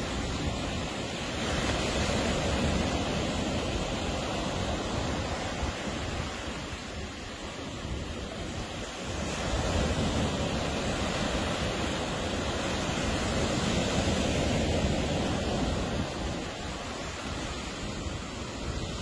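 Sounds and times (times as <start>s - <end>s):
ocean waves washing in: 0.0s - 19.0s.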